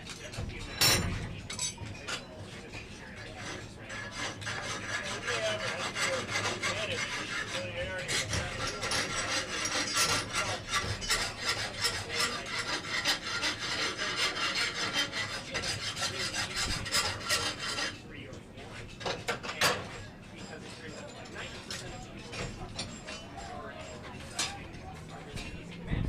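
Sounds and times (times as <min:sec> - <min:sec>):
hand tool scraping iron: 0:01.0 - 0:18.1, 0:18.8 - 0:25.5.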